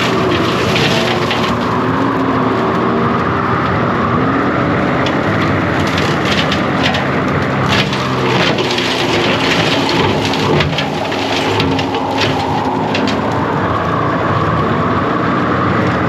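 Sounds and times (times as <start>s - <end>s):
wood cracking and splintering: 0.0s - 14.0s
diesel engine under load: 0.0s - 16.0s.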